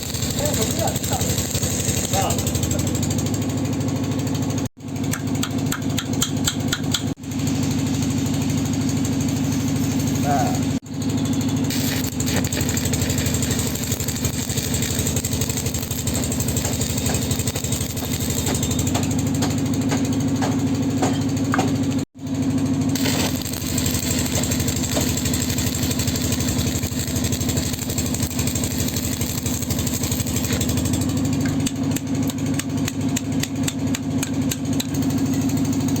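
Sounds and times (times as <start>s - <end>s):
tractor engine idling: 0.0s - 20.3s, 22.4s - 36.0s.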